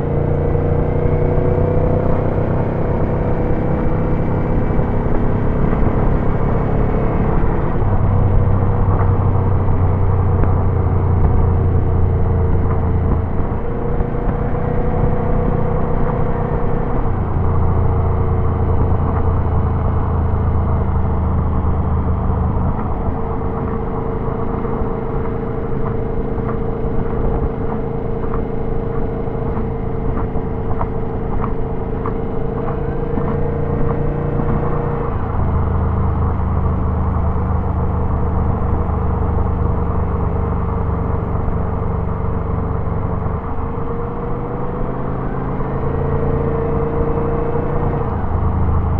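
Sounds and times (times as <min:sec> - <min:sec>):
car engine drone: 0:00.0 - 0:48.9.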